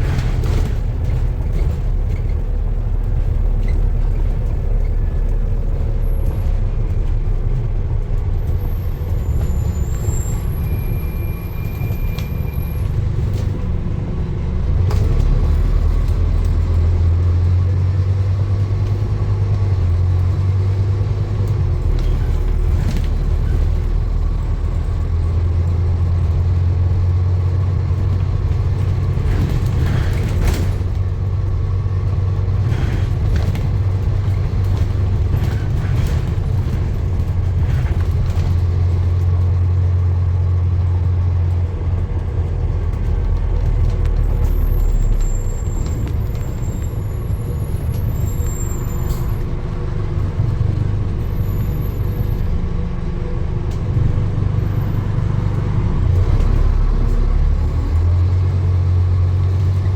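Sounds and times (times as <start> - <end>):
motor vehicle rumbling: 0.0 - 59.9.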